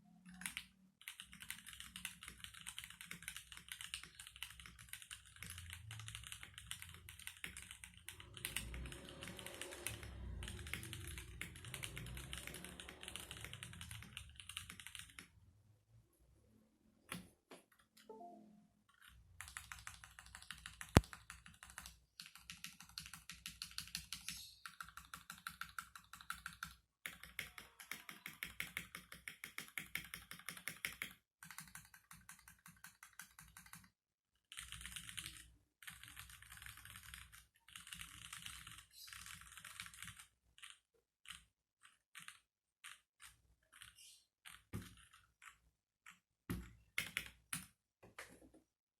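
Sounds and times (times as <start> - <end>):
typing on mechanical keyboard: 0.2 - 15.4, 18.9 - 48.4.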